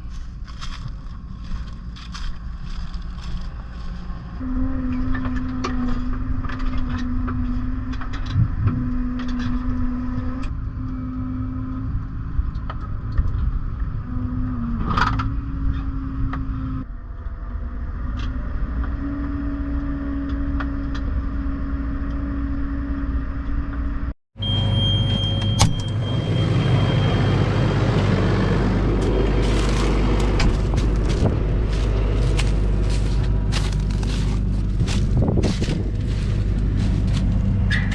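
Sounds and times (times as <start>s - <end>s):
tractor engine rumble: 0.0s - 37.9s.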